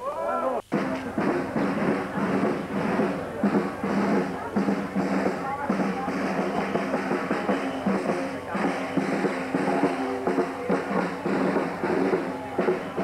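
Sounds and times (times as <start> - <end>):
marching brass band: 0.6 - 13.0
snare drum: 0.6 - 13.0
bass drum: 0.7 - 13.0
cymbals: 0.7 - 13.0.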